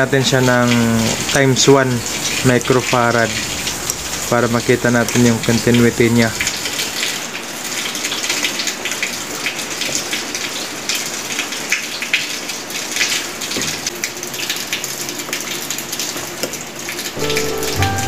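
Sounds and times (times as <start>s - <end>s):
heavy rain hiss and patter: 0.0s - 18.0s
water drips: 0.0s - 18.0s.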